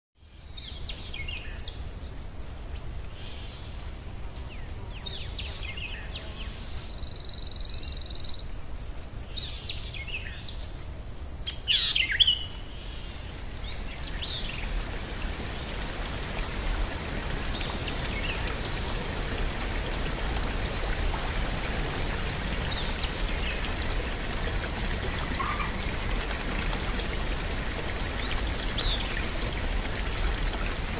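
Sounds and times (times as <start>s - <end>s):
running water hiss: 0.2s - 30.9s.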